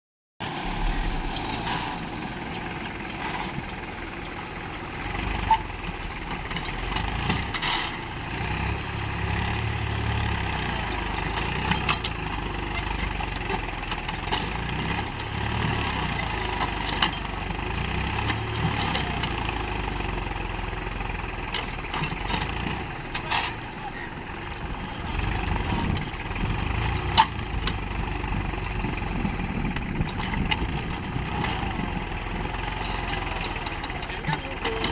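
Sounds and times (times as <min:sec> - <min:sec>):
tractor diesel engine labouring: 0:00.4 - 0:34.9.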